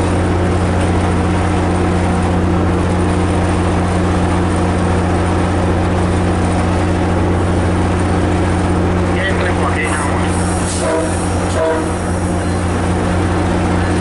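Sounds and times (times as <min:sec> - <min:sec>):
diesel locomotive engine idling: 0:00.0 - 0:14.0.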